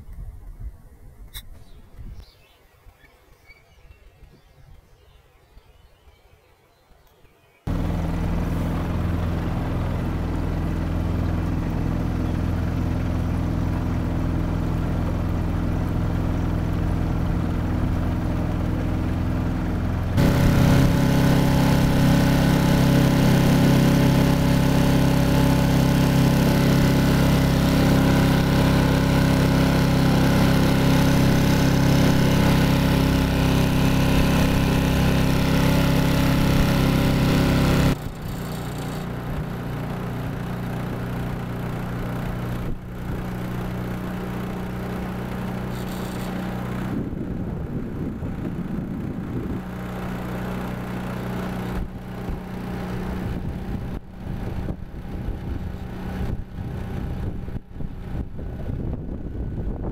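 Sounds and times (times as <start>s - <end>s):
outboard motor running: 7.7s - 59.9s.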